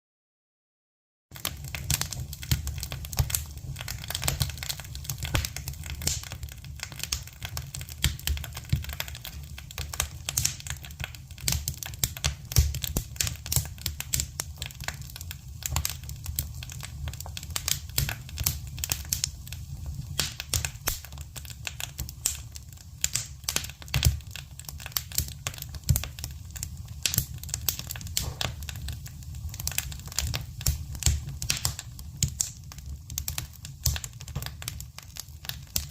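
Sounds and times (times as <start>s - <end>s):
campfire crackling: 1.4s - 35.9s.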